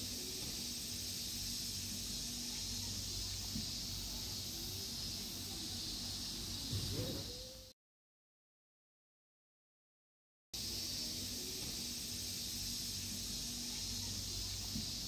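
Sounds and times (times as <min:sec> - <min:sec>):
cicadas shrilling: 0:00.0 - 0:07.7, 0:10.6 - 0:15.0.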